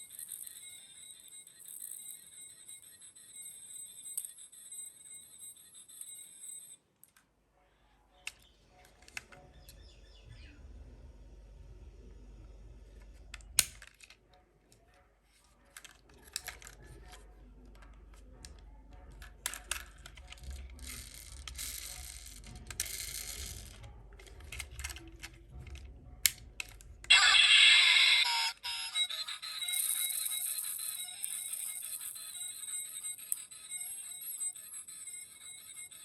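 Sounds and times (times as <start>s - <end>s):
toy parts clicking and clattering: 0.0s - 7.3s, 8.2s - 9.8s, 13.0s - 36.0s.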